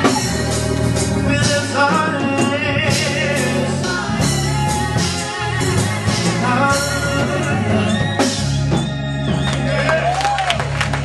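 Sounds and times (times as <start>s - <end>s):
people singing: 0.0s - 8.9s
bass: 0.0s - 11.0s
church band playing: 0.0s - 11.0s.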